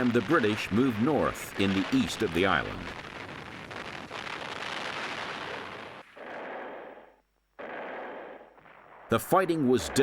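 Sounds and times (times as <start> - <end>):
gunfire and artillery blasts: 0.0 - 10.0.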